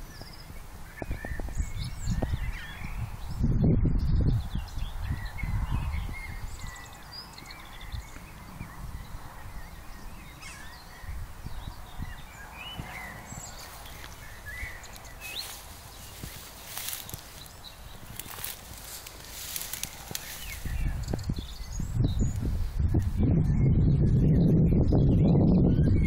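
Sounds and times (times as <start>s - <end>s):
small birds chirping and singing: 0.0s - 26.0s.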